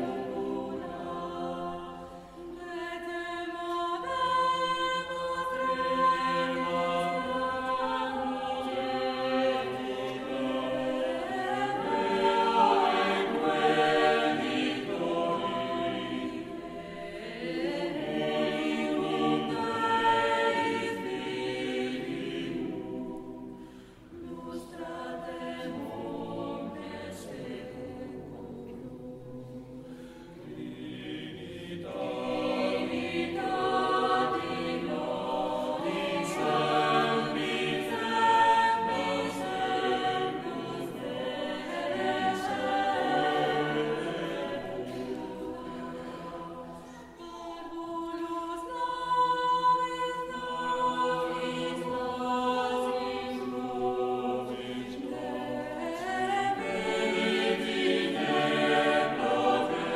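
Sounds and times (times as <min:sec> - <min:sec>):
choir singing sacred music: 0:00.0 - 0:59.9.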